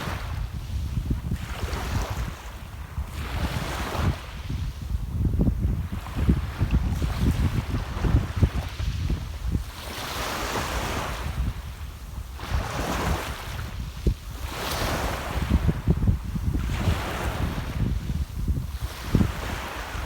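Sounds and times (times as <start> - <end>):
small waves washing onto shore: 0.0 - 20.0
wind buffeting microphone: 0.0 - 20.0.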